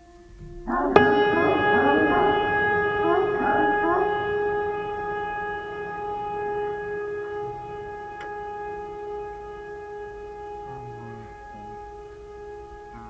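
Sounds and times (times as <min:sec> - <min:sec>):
steady drone note: 0:00.0 - 0:13.0.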